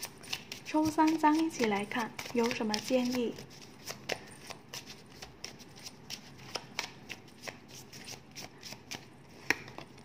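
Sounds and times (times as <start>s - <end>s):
cards shuffling and snapping: 0.0s - 10.0s.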